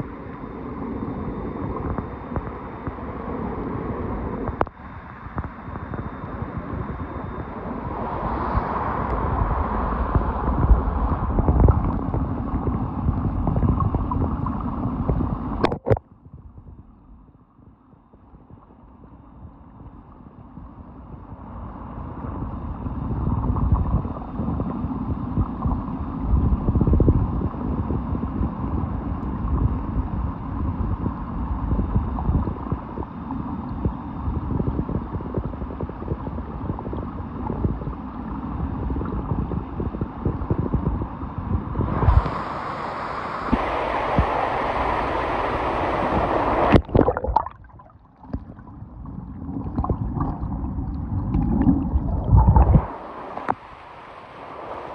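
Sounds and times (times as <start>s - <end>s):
underwater stream rush: 0.0s - 16.2s, 18.2s - 54.9s.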